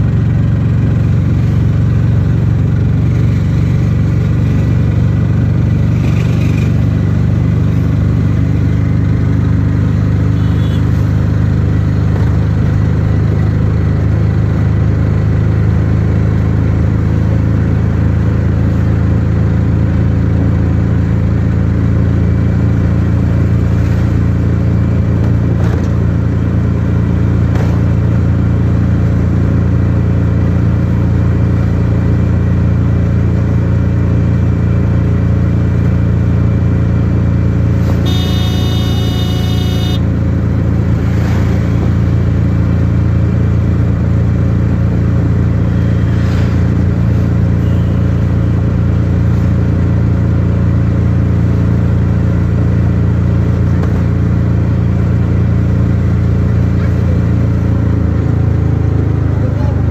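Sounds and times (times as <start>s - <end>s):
auto-rickshaw engine running: 0.0s - 59.9s.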